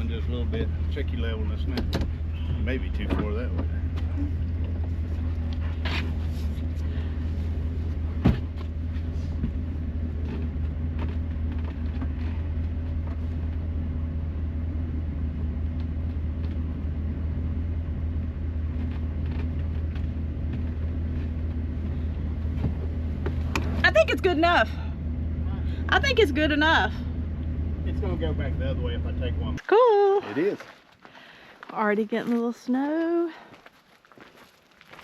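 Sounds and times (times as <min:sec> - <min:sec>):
motorhome engine idling: 0:00.0 - 0:32.0.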